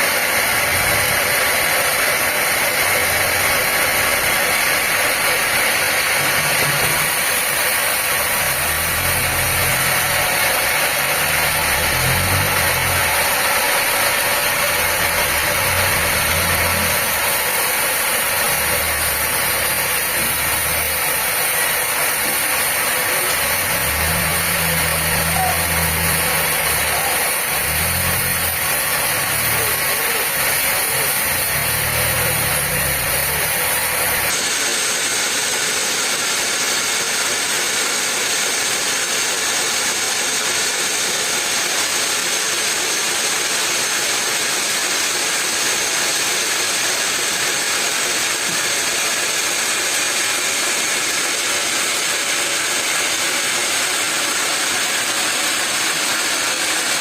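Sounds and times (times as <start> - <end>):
machinery running: 0.0 - 57.0.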